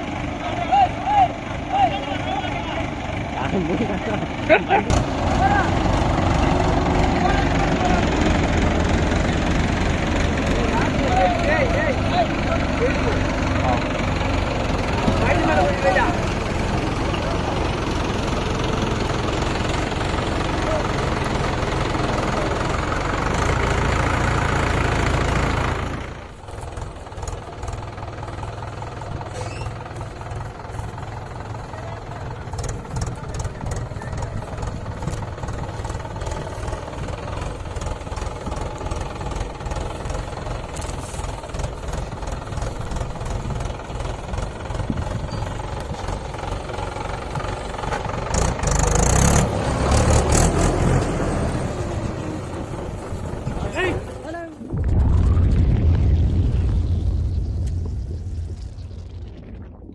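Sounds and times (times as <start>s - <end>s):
diesel tractor engine running: 0.0s - 59.3s.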